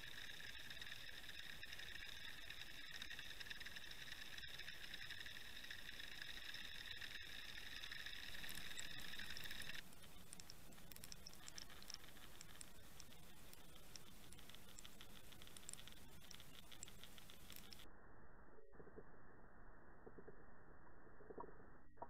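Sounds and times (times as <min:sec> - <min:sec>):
faint hiss with tiny crackles: 0:00.0 - 0:17.9
steady high underwater whine: 0:00.0 - 0:22.0.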